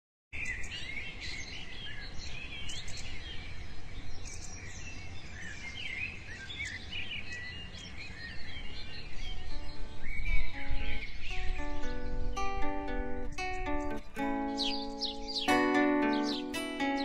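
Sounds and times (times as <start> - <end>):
birds chirping and singing: 0.4 - 17.0.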